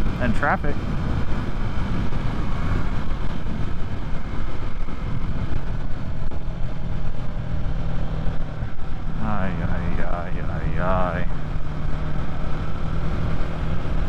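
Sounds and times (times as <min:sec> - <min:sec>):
wind rumble: 0:00.0 - 0:14.0.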